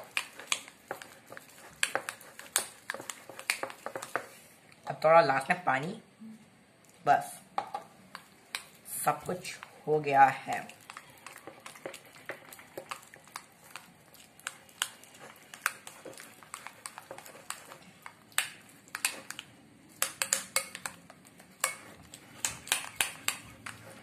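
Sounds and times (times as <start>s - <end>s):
spoon stirring thick batter: 0.0s - 5.5s, 7.6s - 24.0s.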